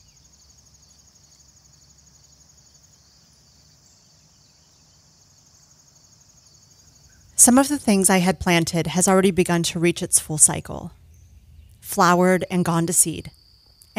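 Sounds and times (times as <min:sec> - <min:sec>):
insects trilling: 0:00.0 - 0:13.9.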